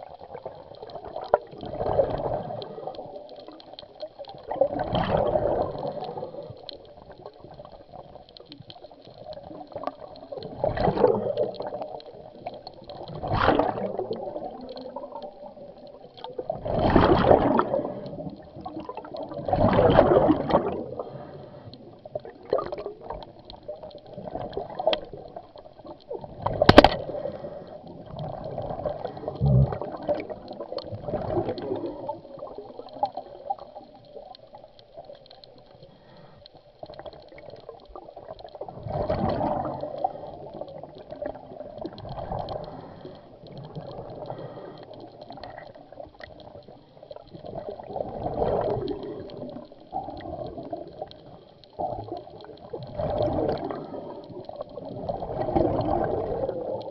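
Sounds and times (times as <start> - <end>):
underwater bubbles gurgling: 0.0 - 56.9.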